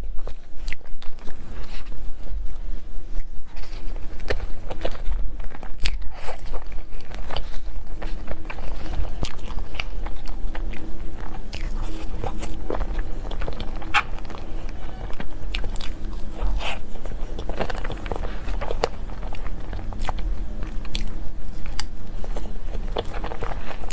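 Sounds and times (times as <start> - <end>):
chewing and crunching cake: 0.0 - 23.9
faint low hum: 0.0 - 23.9.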